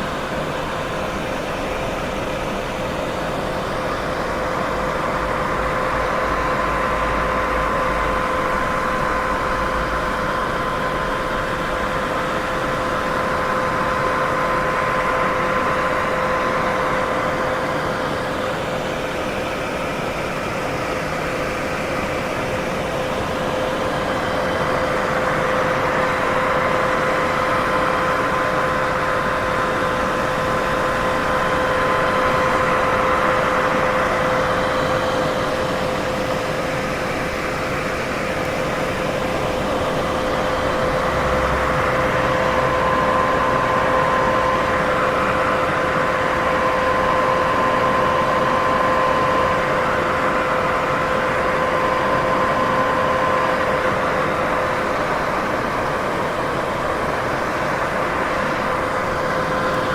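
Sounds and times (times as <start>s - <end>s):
constant hum: 0.0s - 59.9s.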